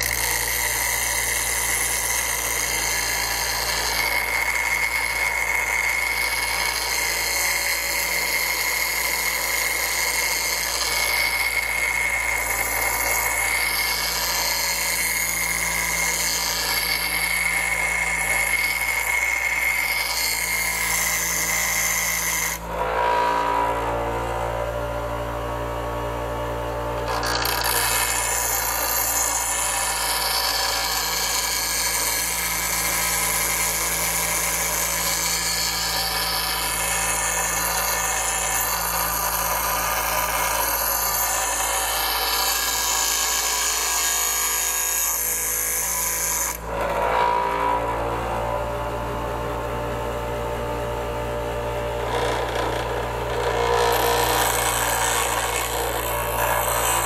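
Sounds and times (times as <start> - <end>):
steel blade grinding on wheel: 0.0 - 23.5, 27.0 - 47.8, 51.9 - 57.0
bench grinder motor humming: 0.0 - 57.0.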